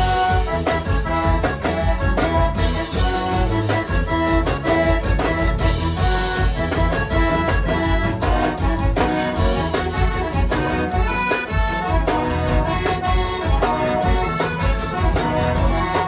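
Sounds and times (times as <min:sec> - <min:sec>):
accordion: 0:00.0 - 0:16.0
drum kit: 0:00.0 - 0:16.0
electric bass: 0:00.0 - 0:16.0.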